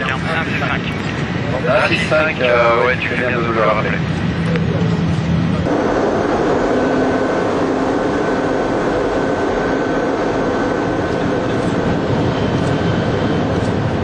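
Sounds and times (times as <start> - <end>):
high-speed train running noise: 0.0 - 14.0.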